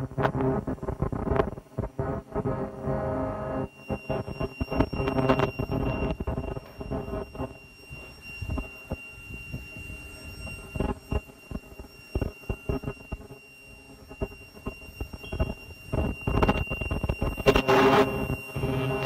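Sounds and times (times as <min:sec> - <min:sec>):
machine high electrical whine: 0:00.0 - 0:19.0.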